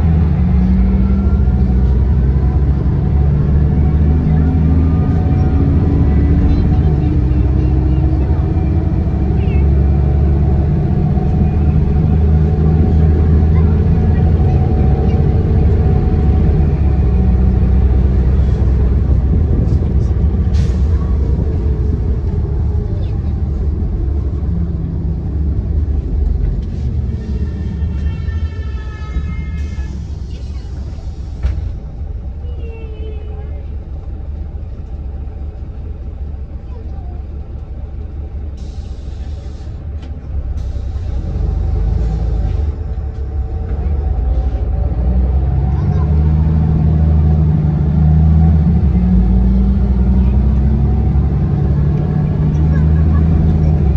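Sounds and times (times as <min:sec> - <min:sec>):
bus engine and road rumble: 0:00.0 - 0:53.9.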